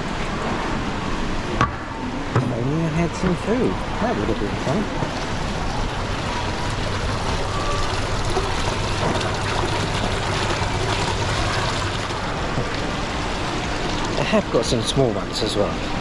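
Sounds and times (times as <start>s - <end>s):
water trickling and bubbling: 0.0s - 16.0s.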